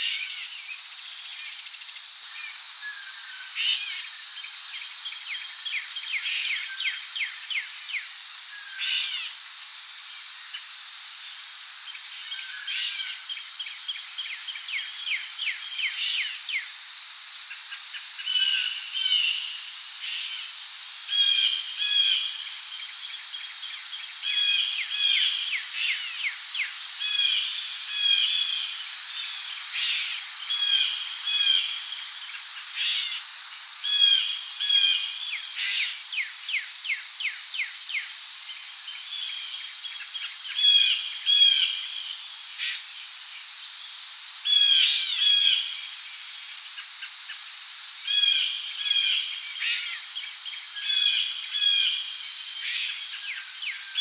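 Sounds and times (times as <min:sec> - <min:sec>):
crickets droning: 0:00.0 - 0:54.0.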